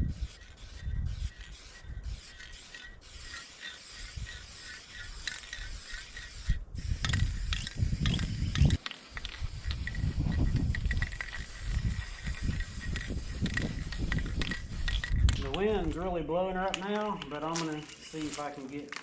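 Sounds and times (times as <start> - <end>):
wind buffeting microphone: 0.0 - 3.3, 4.0 - 17.3.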